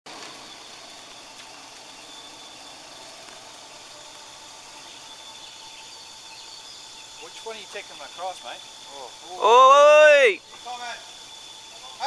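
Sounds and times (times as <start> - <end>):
even outdoor hiss: 0.1 - 12.0
high-pitched insect drone: 0.1 - 12.0.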